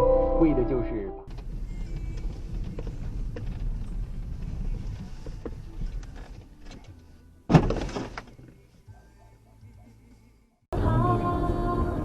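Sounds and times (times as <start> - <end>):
car road and engine rumble: 1.3 - 12.0.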